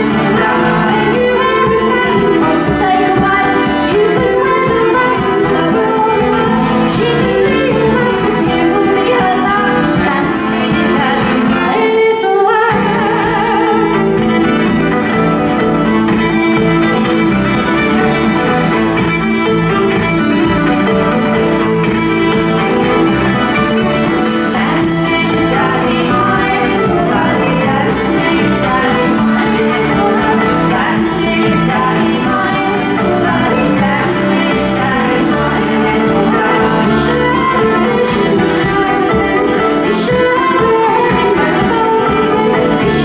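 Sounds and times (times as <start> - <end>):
fiddle and acoustic guitar: 0.0 - 43.0
person singing: 0.0 - 43.0.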